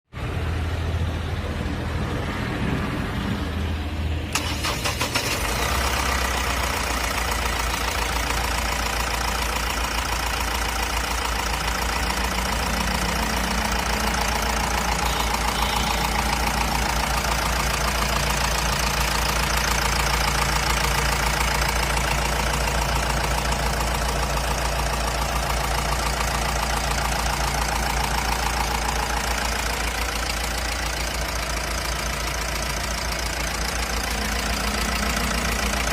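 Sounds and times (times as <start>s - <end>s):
diesel engine idling: 0.2s - 35.9s.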